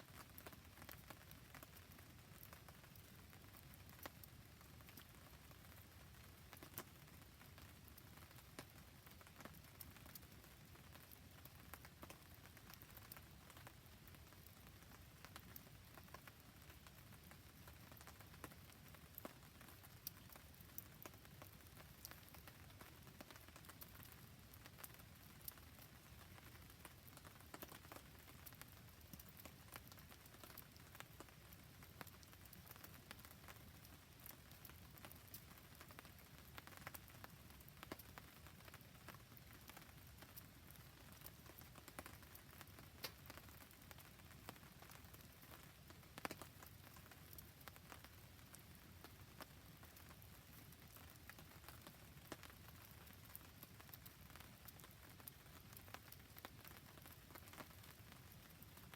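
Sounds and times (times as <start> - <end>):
faint rain pattering: 0.0 - 58.9
wood fire crackling: 0.0 - 58.9.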